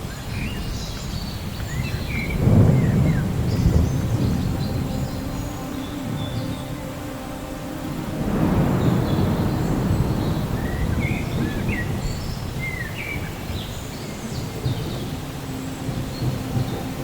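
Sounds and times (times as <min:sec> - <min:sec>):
birds chirping: 0:00.0 - 0:17.0
thunder rumbling: 0:00.5 - 0:17.0.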